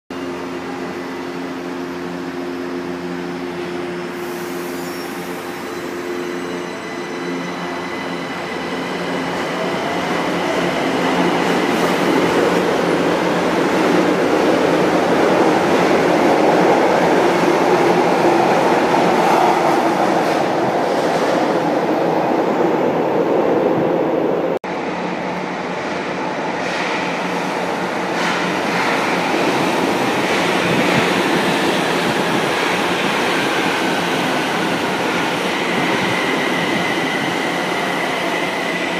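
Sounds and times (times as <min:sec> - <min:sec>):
train humming: 0:00.2 - 0:38.9.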